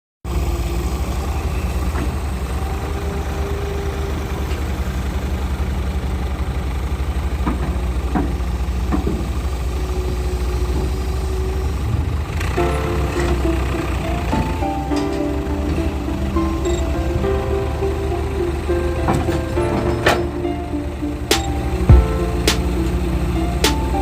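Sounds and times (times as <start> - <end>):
diesel engine running: 0.3 - 24.0.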